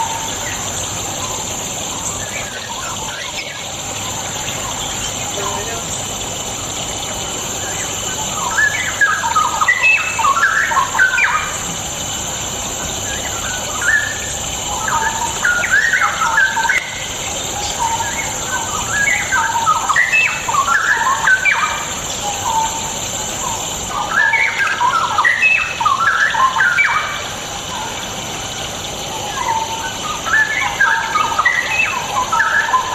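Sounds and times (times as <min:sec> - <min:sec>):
bird warbling: 0:00.0 - 0:32.9
steady high hiss: 0:00.0 - 0:32.9.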